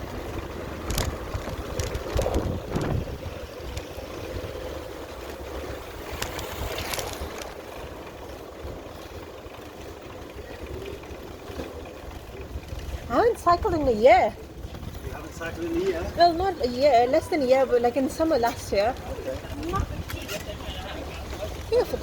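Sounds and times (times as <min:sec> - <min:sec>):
low rumble of bicycle ride: 0:00.0 - 0:22.0
wind buffeting microphone: 0:00.0 - 0:22.0
sharp clicks and rattles: 0:00.1 - 0:17.0, 0:18.0 - 0:22.0.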